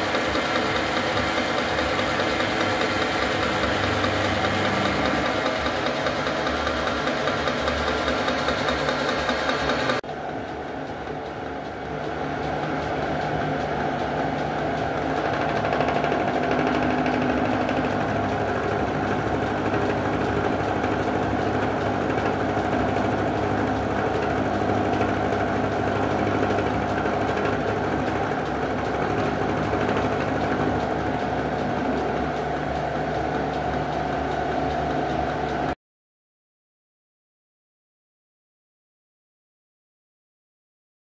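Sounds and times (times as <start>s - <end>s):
milling machine cutting metal: 0.0s - 10.0s, 12.0s - 35.6s.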